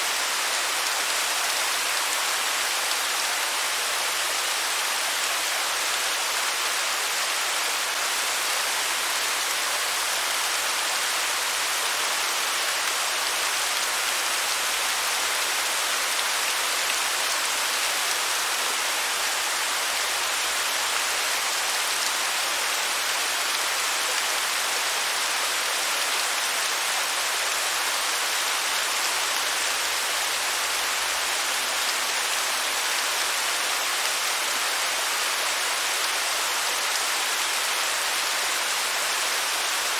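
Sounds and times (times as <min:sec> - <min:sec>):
waterfall cascading: 0:00.0 - 0:39.9.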